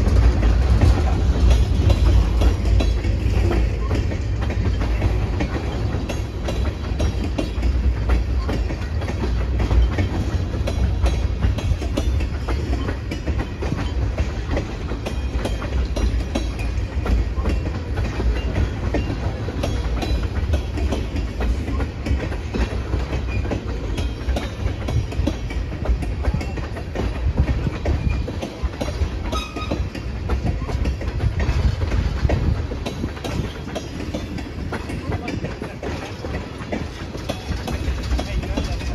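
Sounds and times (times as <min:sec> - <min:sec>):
freight train rumbling past: 0:00.0 - 0:38.9
wheels clicking over rail joints: 0:00.0 - 0:38.9.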